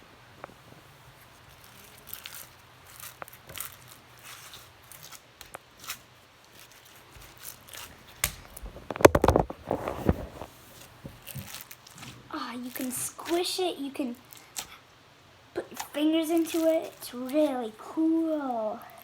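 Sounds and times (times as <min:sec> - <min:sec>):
slime squishing and crackling: 0:01.1 - 0:14.8, 0:15.6 - 0:19.0.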